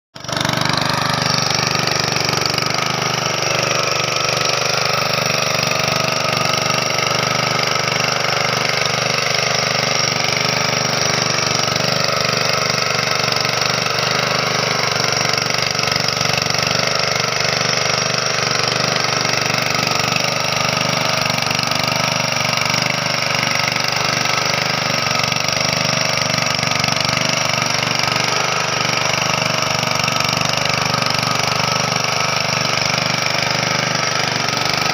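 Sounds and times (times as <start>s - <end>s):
small engine running: 0.2s - 34.9s.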